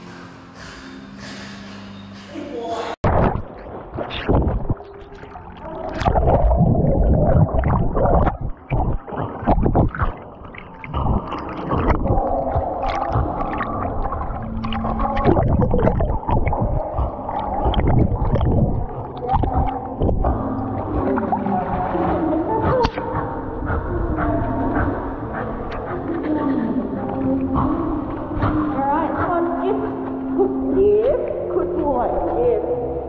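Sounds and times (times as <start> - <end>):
pool water sloshing and splashing: 3.1 - 32.9
dog paddling in water: 3.5 - 32.4.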